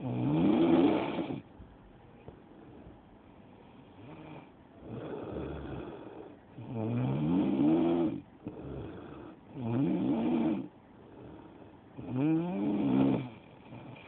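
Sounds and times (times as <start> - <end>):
loud snoring: 0.0 - 1.4, 4.0 - 14.0
quiet breathing: 0.0 - 14.0.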